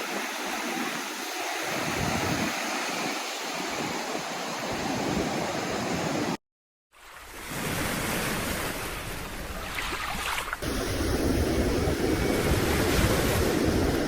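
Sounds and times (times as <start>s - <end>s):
ocean surf on beach: 0.0s - 6.4s, 7.0s - 14.0s
wind rumbling on microphone: 0.1s - 6.4s, 7.5s - 14.0s.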